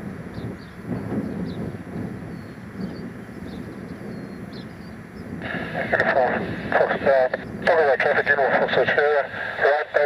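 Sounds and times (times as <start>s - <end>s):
light aircraft engine: 0.0s - 10.0s
wind buffeting microphone: 0.0s - 10.0s.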